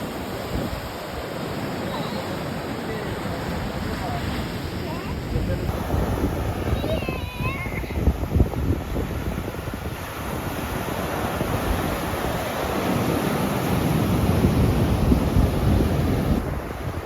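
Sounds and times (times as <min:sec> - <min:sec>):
wind buffeting microphone: 0:00.0 - 0:02.2, 0:03.1 - 0:17.0
surf breaking on shore: 0:00.0 - 0:17.0.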